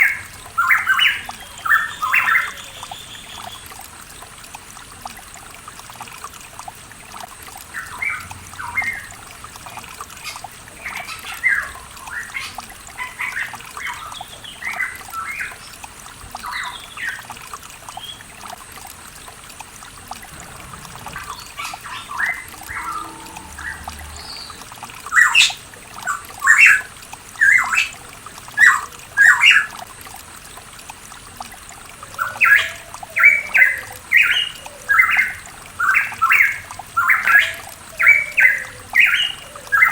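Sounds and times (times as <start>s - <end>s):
faint trickle of water: 0.0s - 39.9s.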